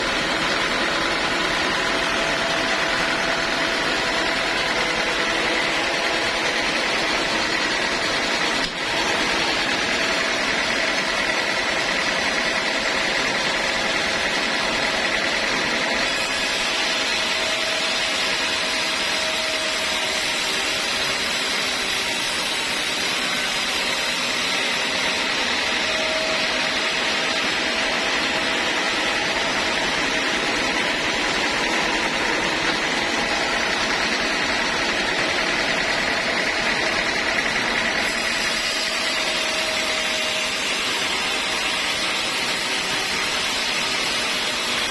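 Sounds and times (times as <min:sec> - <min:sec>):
constant high mechanical tone: 0:00.0 - 0:44.9
sawmill machinery drone: 0:00.0 - 0:44.9.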